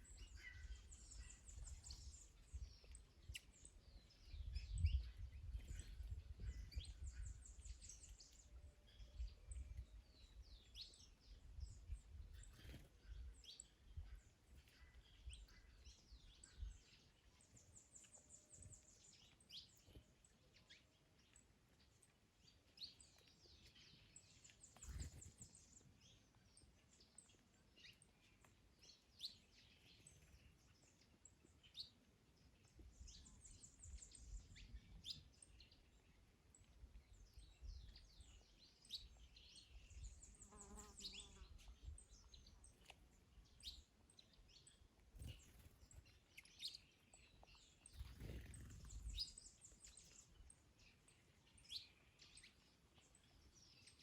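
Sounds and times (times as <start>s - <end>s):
songbird chirps and calls: 0.0s - 54.0s.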